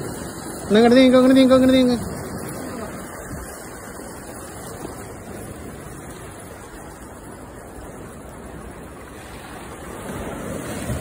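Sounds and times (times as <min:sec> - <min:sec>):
sea waves washing against rocks: 0:00.0 - 0:11.0.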